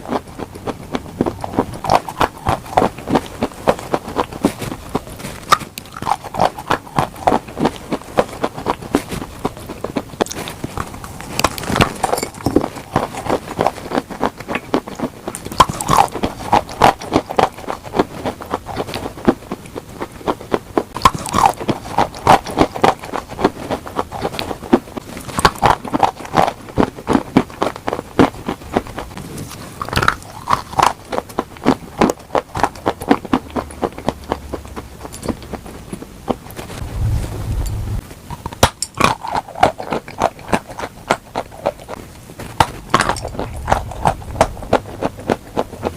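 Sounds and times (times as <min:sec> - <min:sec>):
crunchy food being chewed: 0:00.0 - 0:45.9.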